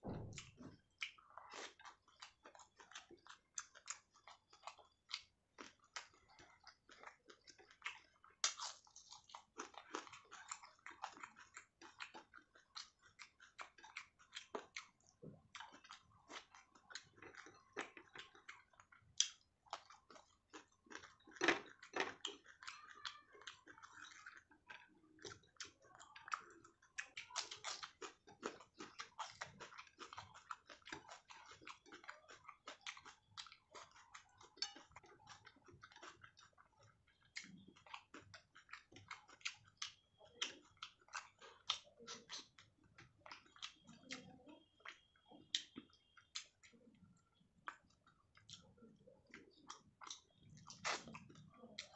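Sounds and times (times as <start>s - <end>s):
chewing mouth sounds: 0.4s - 51.9s.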